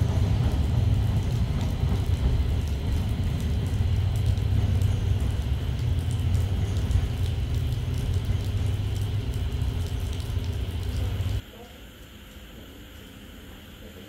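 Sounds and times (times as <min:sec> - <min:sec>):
rain drops ticking: 0:00.0 - 0:11.4
steady low rumble: 0:00.0 - 0:11.4.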